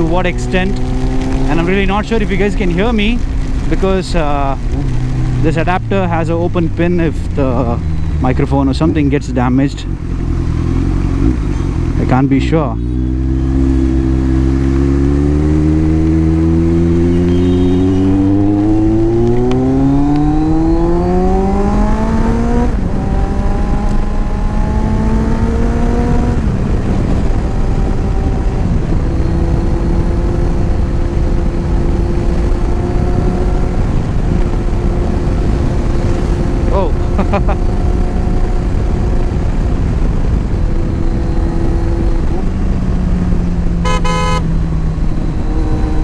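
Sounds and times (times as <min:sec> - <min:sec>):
motorcycle engine accelerating: 0:00.0 - 0:46.0
wind rushing on microphone: 0:00.0 - 0:46.0.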